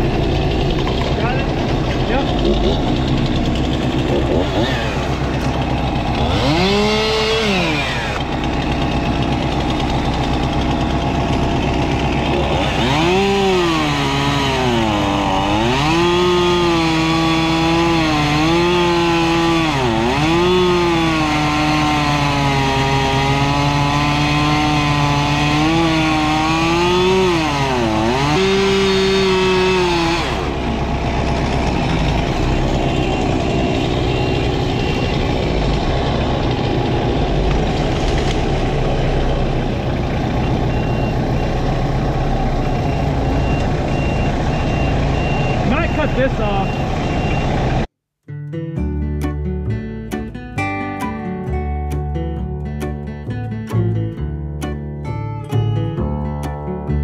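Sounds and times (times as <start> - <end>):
band saw blade cutting log: 0.0 - 47.3
sawmill engine revving: 0.0 - 47.9.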